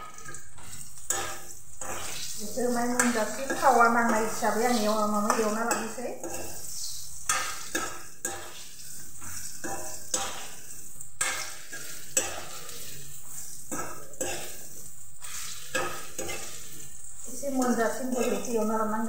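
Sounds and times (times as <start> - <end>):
frying oil sizzling: 0.0 - 19.0
steel spoon scraping a pan: 0.0 - 19.0.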